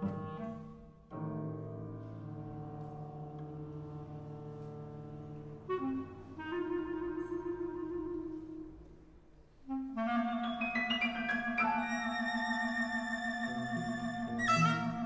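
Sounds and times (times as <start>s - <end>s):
chamber music: 0.0s - 15.0s.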